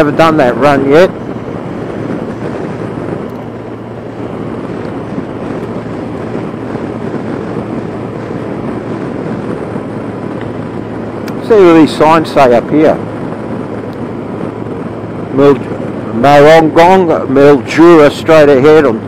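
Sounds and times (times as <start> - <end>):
motorcycle engine hum: 0.0 - 19.0
wind rush on microphone: 0.0 - 19.0.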